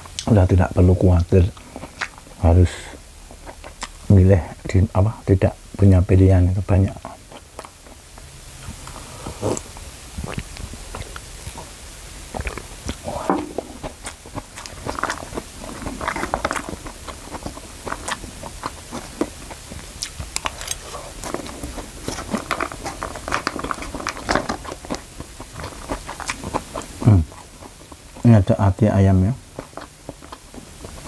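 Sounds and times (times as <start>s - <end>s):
man chewing food: 0.0s - 4.7s, 6.8s - 31.0s.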